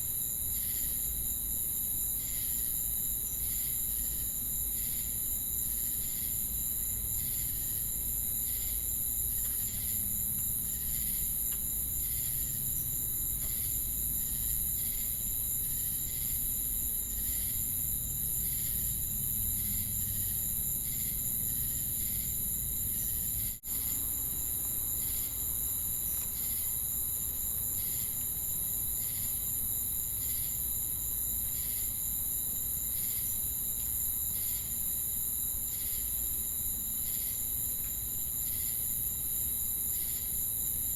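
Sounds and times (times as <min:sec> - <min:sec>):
crickets and cicadas chirping: 0:00.0 - 0:40.9.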